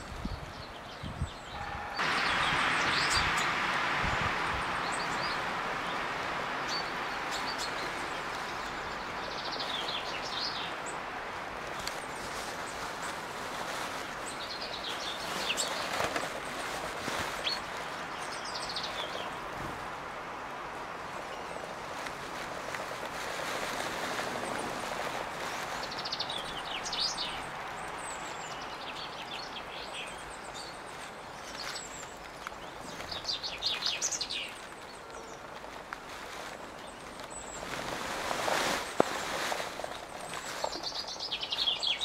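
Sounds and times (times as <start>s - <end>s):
small birds chirping: 0.0s - 19.8s, 21.0s - 42.0s
background hiss: 0.0s - 42.0s.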